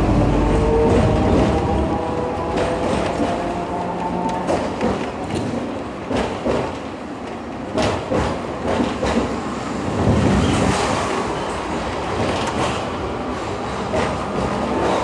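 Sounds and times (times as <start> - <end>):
tram rumble and rattle: 0.0 - 15.0
wheels clacking on rails: 0.0 - 15.0.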